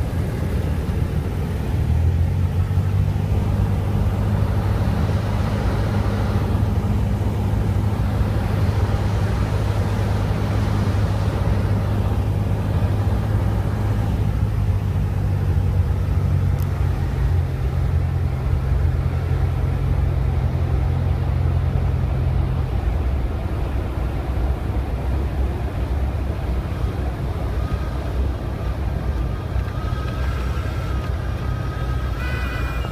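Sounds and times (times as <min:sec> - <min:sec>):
small plane engine droning: 0:00.0 - 0:32.9.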